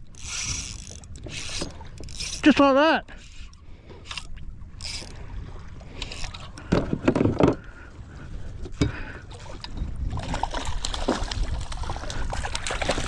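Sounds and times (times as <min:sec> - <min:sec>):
water sloshing against hull: 0:00.0 - 0:13.0
wind buffeting microphone: 0:00.0 - 0:13.0.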